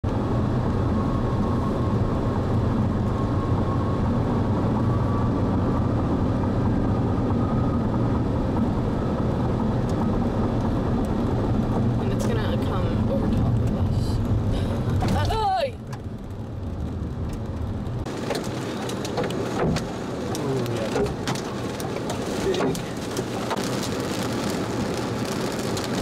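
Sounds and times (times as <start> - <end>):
car road and engine noise: 0.0 - 26.0.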